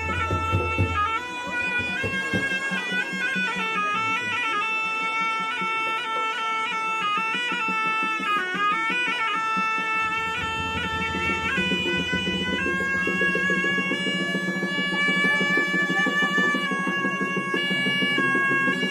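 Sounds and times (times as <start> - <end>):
reedy bagpipe-like melody: 0.0 - 18.9.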